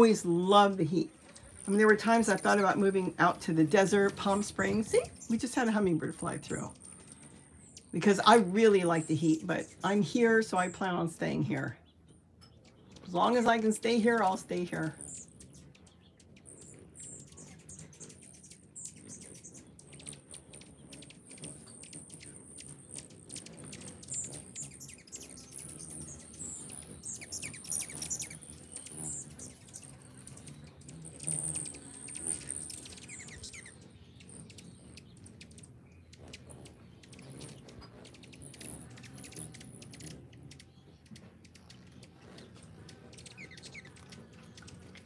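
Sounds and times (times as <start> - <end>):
hummingbirds chipping: 0.0 - 45.0.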